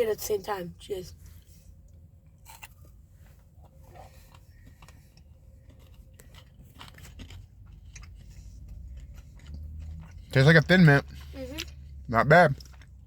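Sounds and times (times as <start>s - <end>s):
person chewing crunchy bar: 2.2s - 13.0s.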